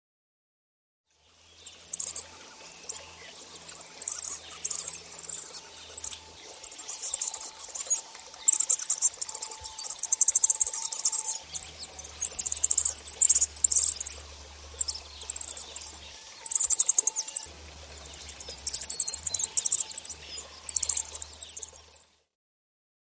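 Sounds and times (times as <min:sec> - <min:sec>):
swifts screaming: 0:01.4 - 0:22.1.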